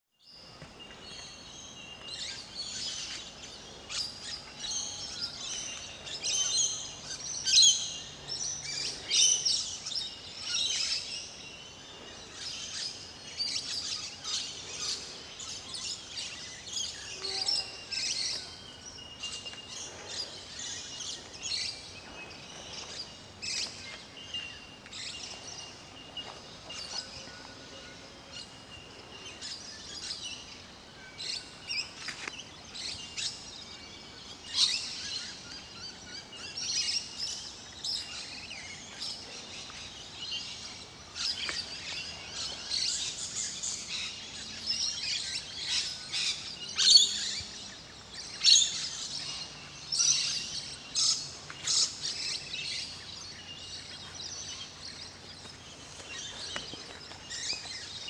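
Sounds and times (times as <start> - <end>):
small birds chirping: 0.2 - 58.0.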